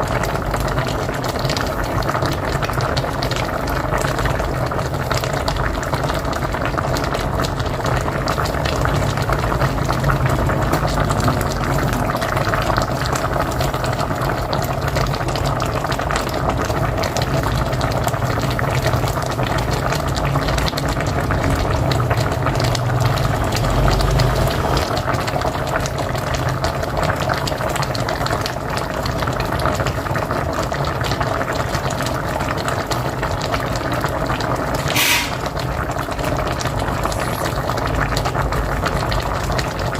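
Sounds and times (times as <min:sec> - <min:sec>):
pot boiling with dense bubbling: 0:00.0 - 0:39.9.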